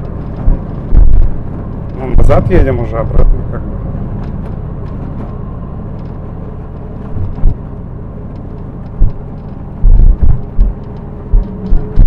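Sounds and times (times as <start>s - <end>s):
dull low thumps: 0.0s - 5.5s, 6.8s - 12.0s
car road and engine rumble: 0.0s - 12.0s.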